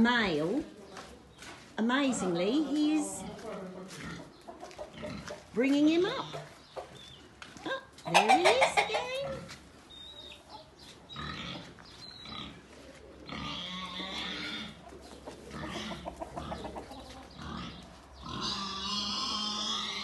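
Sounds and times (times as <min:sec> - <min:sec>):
farm animal calling: 0:01.9 - 0:20.0.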